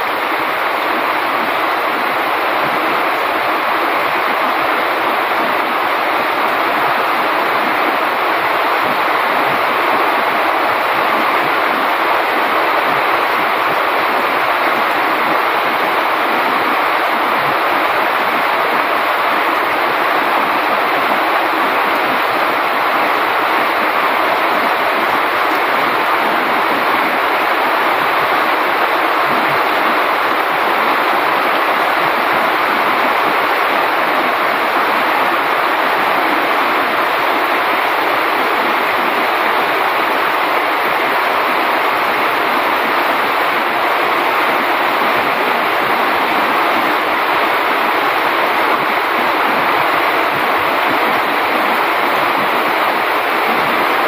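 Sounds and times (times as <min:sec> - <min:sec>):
heavy rain on roof and foliage: 0:00.0 - 0:54.0.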